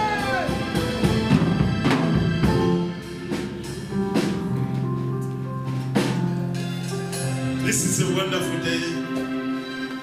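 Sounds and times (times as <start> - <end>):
drums: 0.0 - 10.0
sustained keyboard notes: 0.8 - 10.0.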